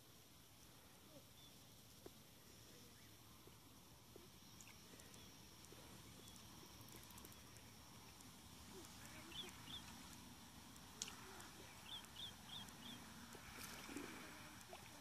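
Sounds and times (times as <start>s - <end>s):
open-air hiss: 0.0s - 15.0s
small bird chirping: 2.5s - 15.0s.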